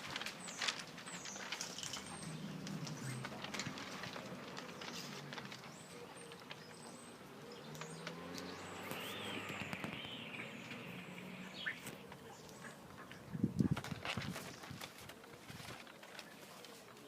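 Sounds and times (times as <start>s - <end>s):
birds chirping: 0.0s - 17.0s
faint steady background noise: 0.0s - 17.0s.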